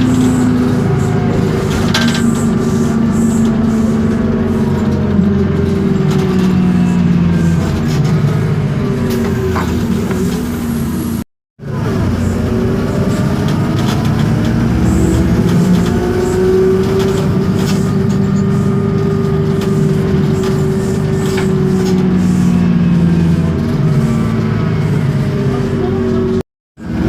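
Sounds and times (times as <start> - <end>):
bus diesel engine running: 0.0 - 27.0
drivetrain whine: 0.0 - 27.0.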